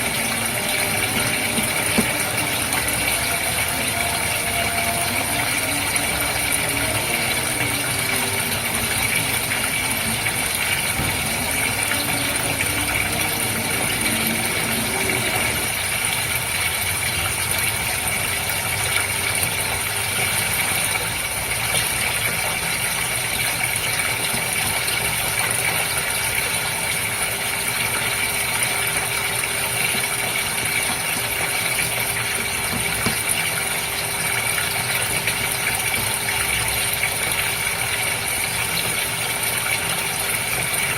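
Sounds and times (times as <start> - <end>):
aquarium pump humming: 0.0 - 40.9
water running and bubbling: 0.0 - 40.9.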